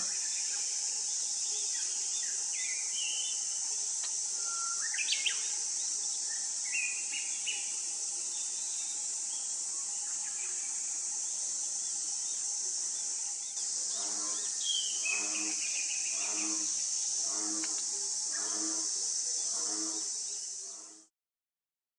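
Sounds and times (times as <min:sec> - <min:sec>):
insects droning: 0:00.0 - 0:21.1.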